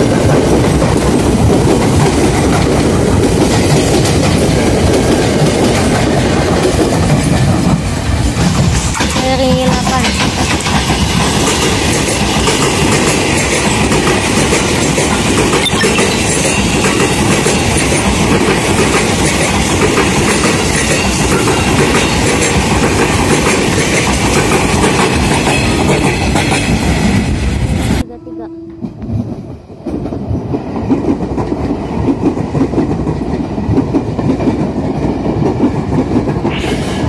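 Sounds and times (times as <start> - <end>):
electric train rumbling past: 0.0 - 37.0.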